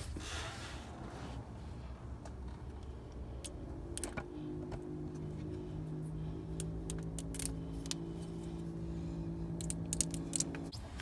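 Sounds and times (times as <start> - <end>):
faint drone of held low tones: 0.9 - 10.7.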